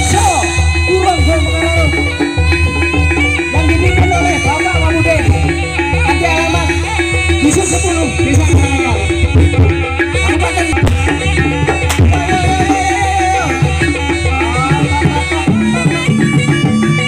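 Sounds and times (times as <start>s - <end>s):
drumming: 0.0s - 17.0s
wavering melody line: 0.0s - 17.0s.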